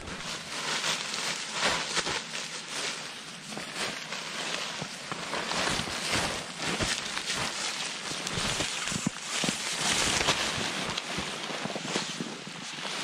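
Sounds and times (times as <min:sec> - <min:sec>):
crunching in dry snow: 0:00.0 - 0:13.0.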